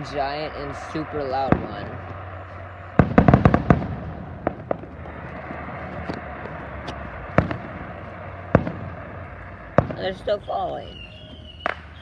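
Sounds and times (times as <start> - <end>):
low rumble: 0.0 - 11.6
fireworks exploding: 0.0 - 12.0.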